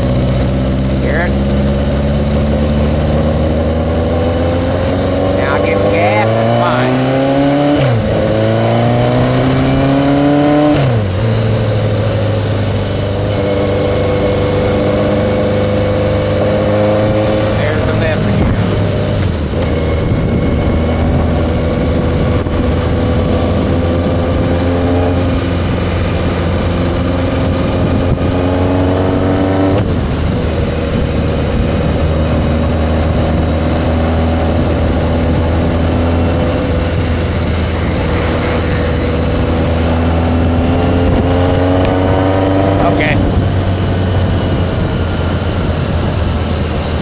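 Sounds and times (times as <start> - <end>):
motorcycle engine running: 0.0 - 47.0
wind rumble on microphone: 0.0 - 47.0.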